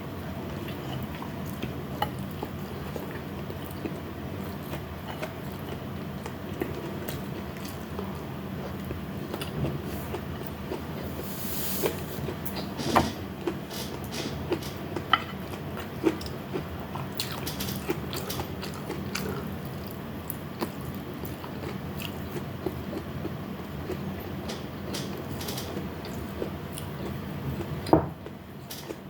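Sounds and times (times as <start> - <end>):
steady low hum: 0.0 - 29.0
chewing and biting food: 0.7 - 11.1, 14.5 - 27.9.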